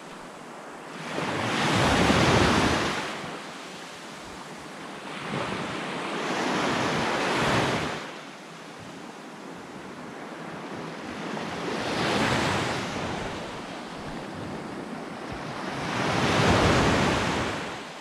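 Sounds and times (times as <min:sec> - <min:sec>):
small waves breaking on beach: 0:00.0 - 0:18.0.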